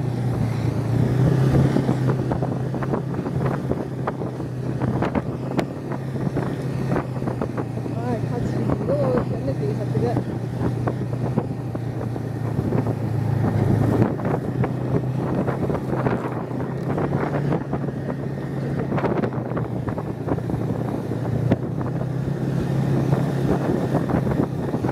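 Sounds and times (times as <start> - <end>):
snowmobile engine running: 0.0 - 24.9
wind on microphone: 0.0 - 24.9.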